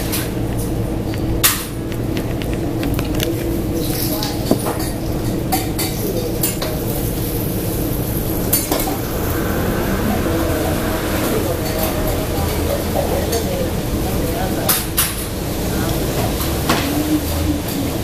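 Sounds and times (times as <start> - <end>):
low din of eatery: 0.0 - 18.0.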